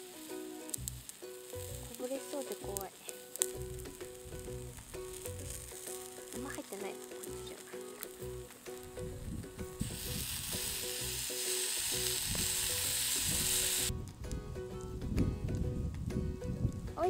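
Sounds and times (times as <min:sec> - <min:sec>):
chicken wings sizzling on grill: 0:00.0 - 0:13.9
soft background music: 0:00.0 - 0:17.0.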